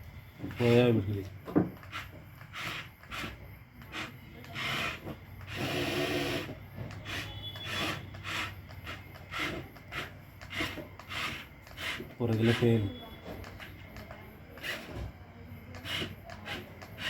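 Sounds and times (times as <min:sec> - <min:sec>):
toy excavator tracks scraping rocks: 0:00.5 - 0:17.0.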